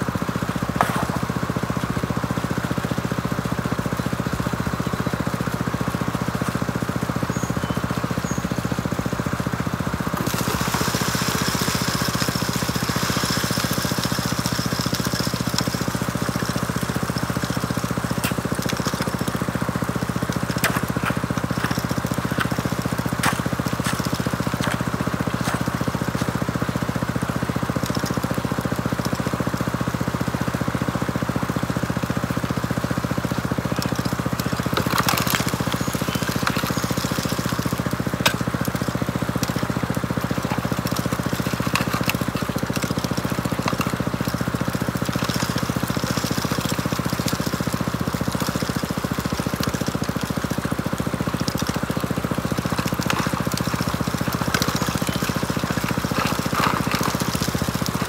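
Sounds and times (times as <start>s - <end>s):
small water pump engine running: 0.0s - 58.0s.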